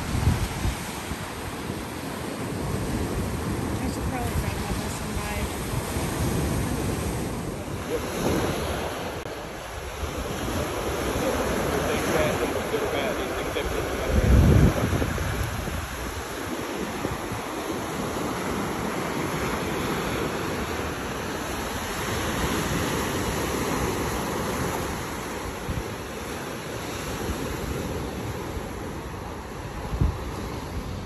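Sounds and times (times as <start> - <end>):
surf breaking on beach: 0.0 - 31.0
wind on microphone: 0.0 - 31.0.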